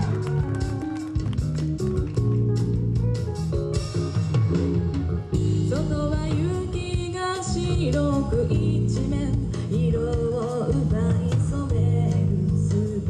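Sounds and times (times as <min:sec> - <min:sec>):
bass guitar: 0:00.0 - 0:13.0
drums: 0:00.0 - 0:13.0.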